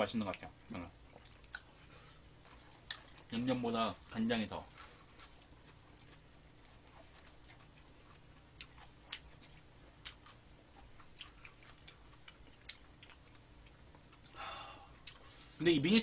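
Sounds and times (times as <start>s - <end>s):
chewing crunchy food: 0.1s - 15.5s.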